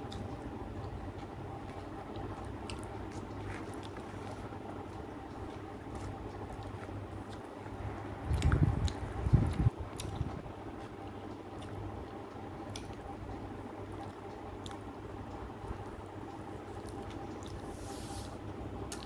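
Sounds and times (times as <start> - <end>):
chewing food: 0.0 - 18.0, 18.8 - 19.0
faint hum: 0.0 - 19.0.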